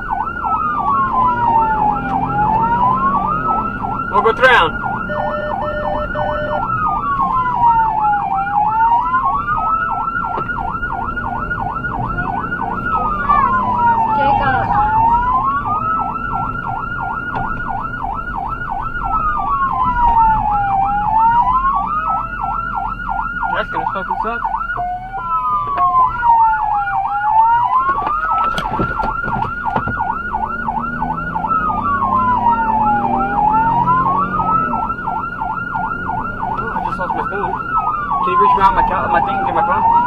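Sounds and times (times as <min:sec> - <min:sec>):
emergency vehicle siren: 0:00.0 - 0:40.0
engine and road rumble: 0:00.0 - 0:40.0.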